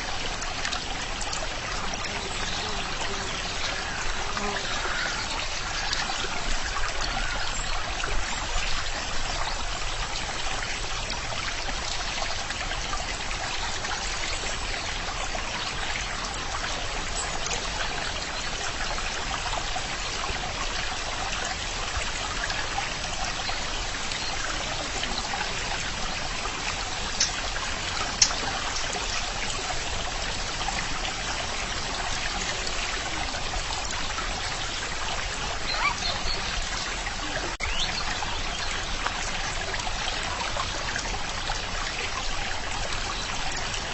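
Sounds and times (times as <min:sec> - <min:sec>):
stream water flowing over stones: 0:00.0 - 0:43.9.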